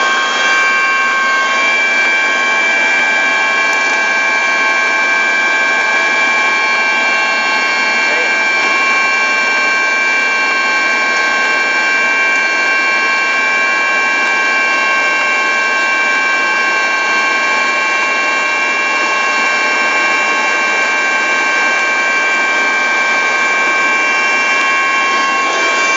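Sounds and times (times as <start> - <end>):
high whining tones: 0.0 - 25.9.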